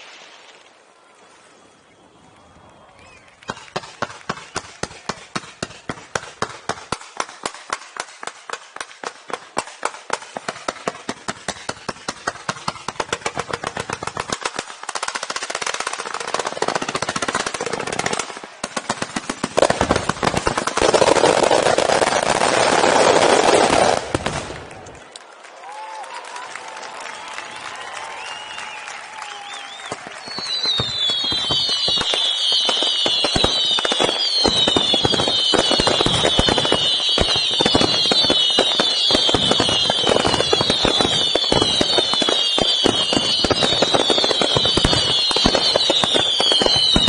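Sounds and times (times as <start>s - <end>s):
fireworks barrage: 0.0s - 2.0s, 3.0s - 25.1s, 28.1s - 47.0s
faint fireworks crackle: 0.0s - 47.0s.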